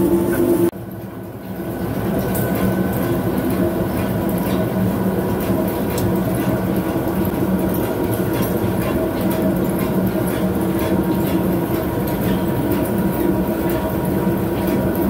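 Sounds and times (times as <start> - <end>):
lathe machine hum: 0.0 - 0.7, 1.4 - 15.0.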